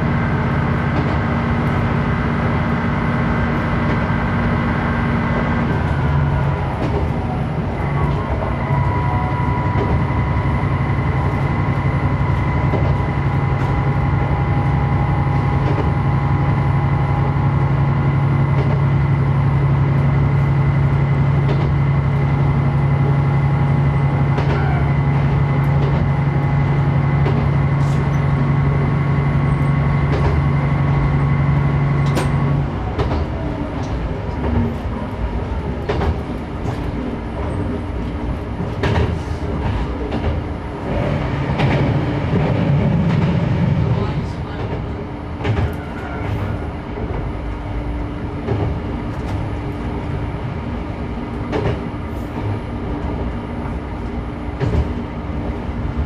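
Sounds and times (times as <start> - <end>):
diesel railcar engine hum: 0.0 - 56.0.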